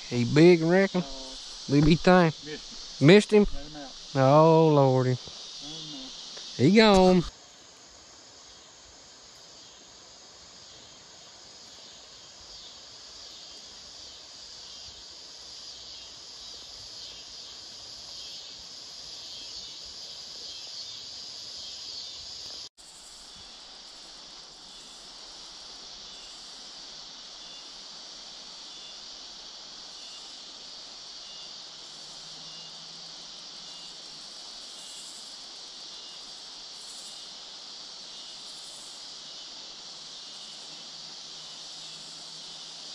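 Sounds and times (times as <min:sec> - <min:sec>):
insects chirping: 0:00.0 - 0:42.9.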